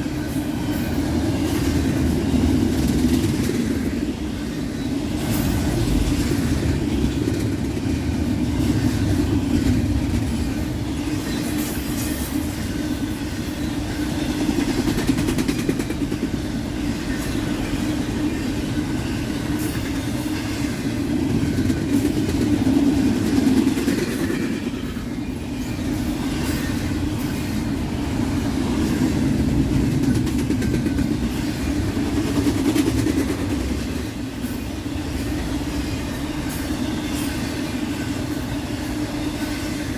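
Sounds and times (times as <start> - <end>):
freight train wheels on rails: 0.0 - 39.9.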